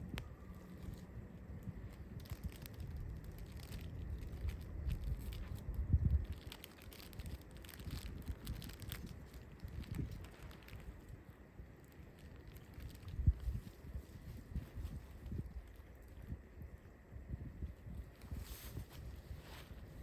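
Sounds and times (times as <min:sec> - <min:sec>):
material crinkling and rustling: 0:00.0 - 0:16.4, 0:17.8 - 0:20.0
wind rumbling on microphone: 0:00.0 - 0:20.0.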